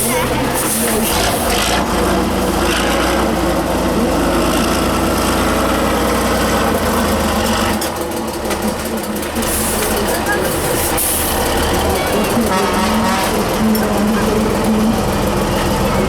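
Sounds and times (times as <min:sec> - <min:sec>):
dense rattle: 0:00.0 - 0:16.0
truck engine deep rumble: 0:00.0 - 0:16.0.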